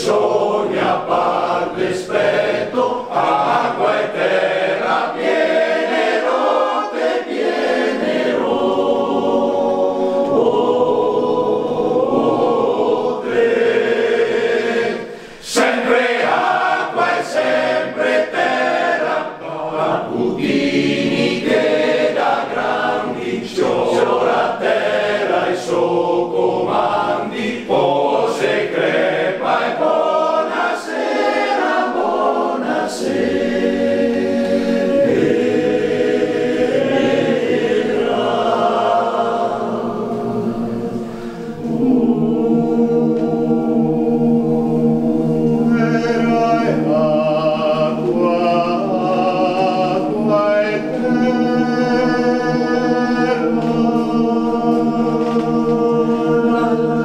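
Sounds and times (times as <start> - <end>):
male choir singing a cappella: 0.0 - 57.0.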